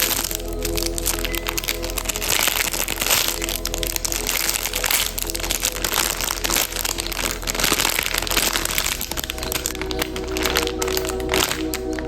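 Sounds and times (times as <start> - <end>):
background music: 0.0 - 12.0
plastic wrappers crinkling: 0.0 - 12.0.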